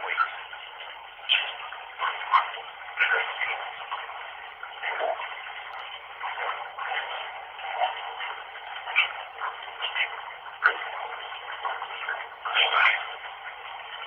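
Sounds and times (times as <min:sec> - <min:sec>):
bath tap water running: 0:00.0 - 0:14.0.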